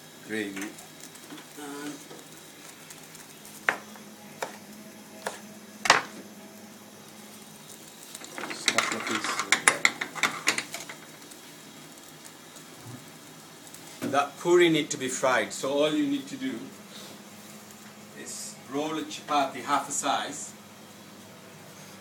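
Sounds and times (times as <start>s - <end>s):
gravy sizzling: 0.0s - 22.0s.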